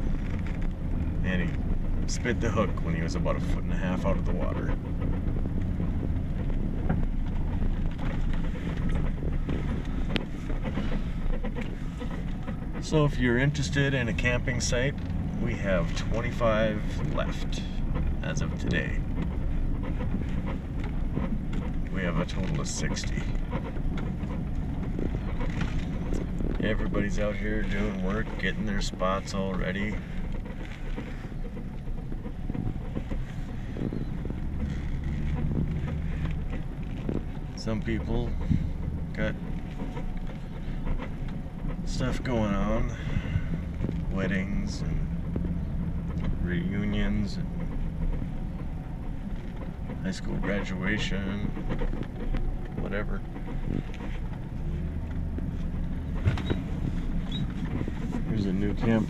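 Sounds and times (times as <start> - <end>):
low rumble of engine and road: 0.0 - 59.0
tyres crackling on dirt: 0.0 - 59.0.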